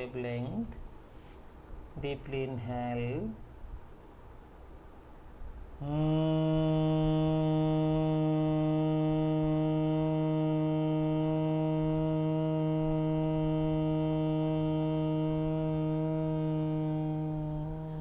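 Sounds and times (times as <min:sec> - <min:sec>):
man chanting a closed-lip hum: 0:00.0 - 0:03.7, 0:05.8 - 0:18.0.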